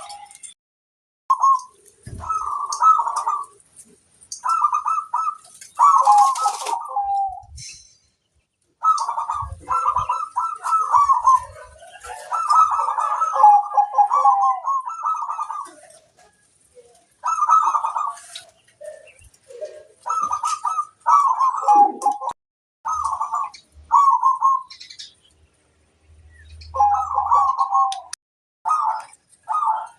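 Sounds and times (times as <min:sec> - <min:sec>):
doves cooing: 0:01.3 - 0:07.6, 0:08.8 - 0:25.0, 0:26.7 - 0:29.9.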